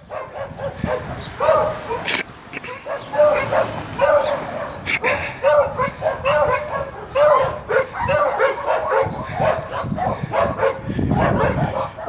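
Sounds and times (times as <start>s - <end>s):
dog yipping: 0.1s - 12.0s.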